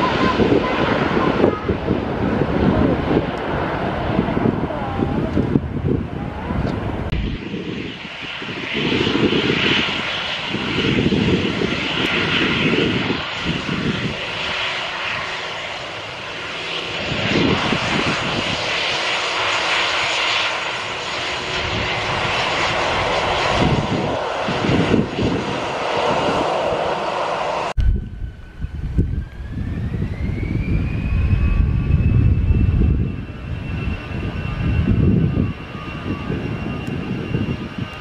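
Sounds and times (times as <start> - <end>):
jet airliner engines whining: 0.0 - 38.0
wind buffeting microphone: 0.0 - 38.0.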